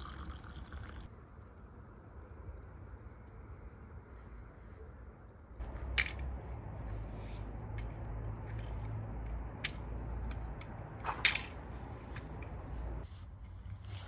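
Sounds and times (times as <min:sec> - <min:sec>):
low outdoor rumble: 0:00.8 - 0:14.0.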